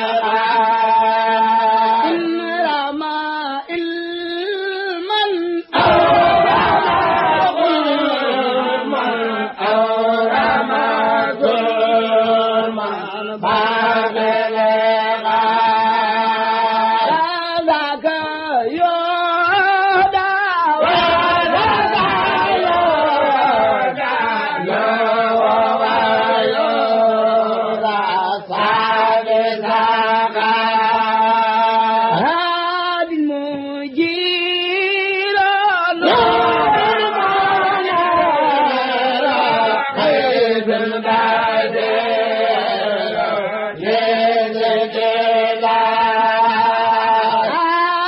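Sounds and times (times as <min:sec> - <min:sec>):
person chanting devotional poem: 0:00.0 - 0:48.0.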